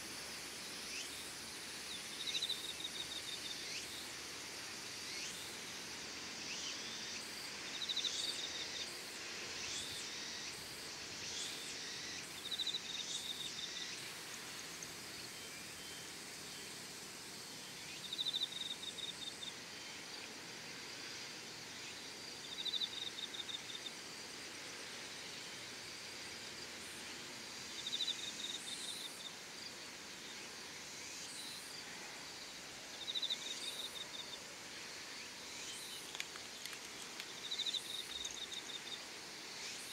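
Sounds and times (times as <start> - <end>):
insects hissing: 0.0 - 39.9.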